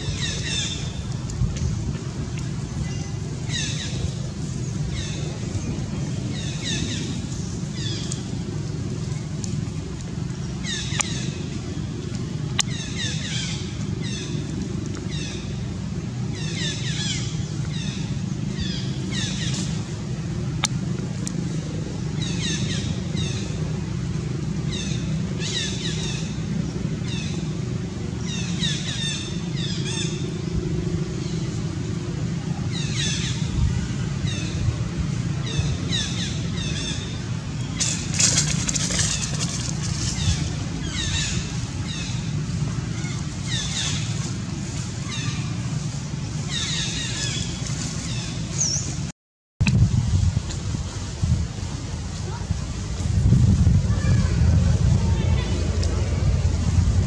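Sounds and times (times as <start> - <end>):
passing motor traffic: 0.0 - 49.1, 49.7 - 57.0.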